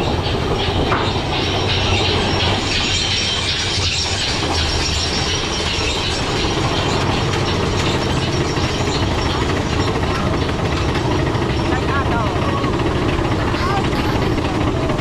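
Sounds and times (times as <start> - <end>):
low rumble of train: 0.0 - 15.0
lift chain clattering: 0.2 - 14.9.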